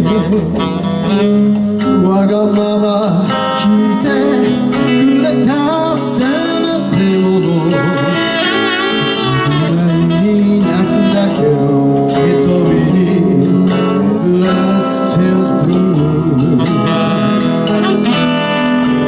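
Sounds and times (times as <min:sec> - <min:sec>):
electric guitars: 0:00.0 - 0:19.0
live rock band playing: 0:00.0 - 0:19.0.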